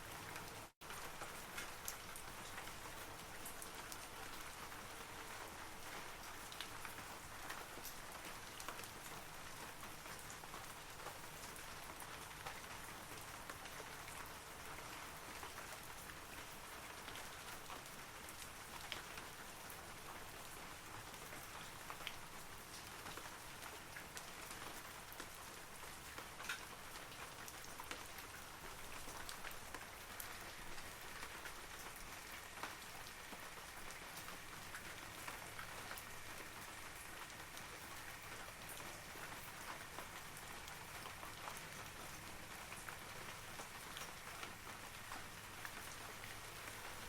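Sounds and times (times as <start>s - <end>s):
rain falling on leaves: 0.0s - 47.0s.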